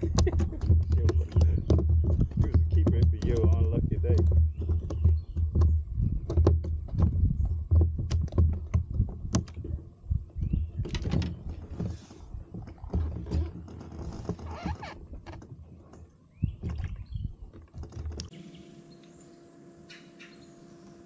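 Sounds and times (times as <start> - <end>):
fishing gear clicking and knocking: 0.0 - 11.9, 12.5 - 18.4.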